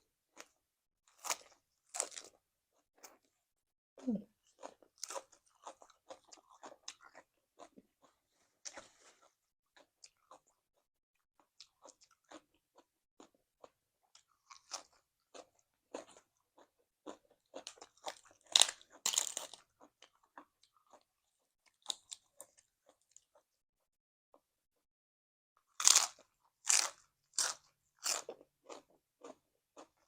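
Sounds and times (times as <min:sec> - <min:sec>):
person chewing crunchy food: 0:00.3 - 0:03.3, 0:04.0 - 0:23.5, 0:25.6 - 0:30.0.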